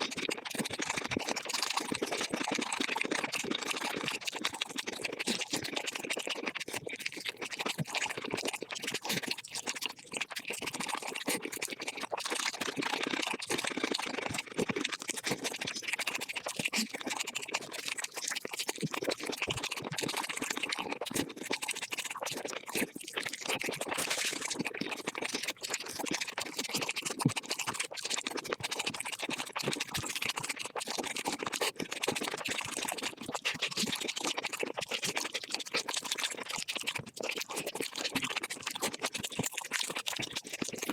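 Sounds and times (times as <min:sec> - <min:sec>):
sped-up crunching and chewing: 0:00.0 - 0:40.9.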